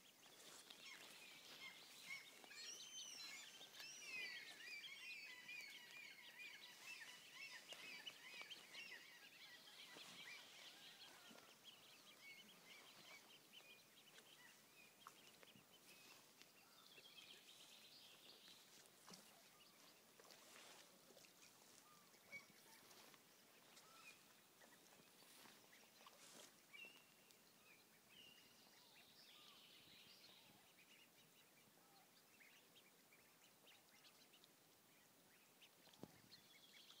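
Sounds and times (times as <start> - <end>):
ducks peeping: 0.0 - 29.1, 30.3 - 37.0.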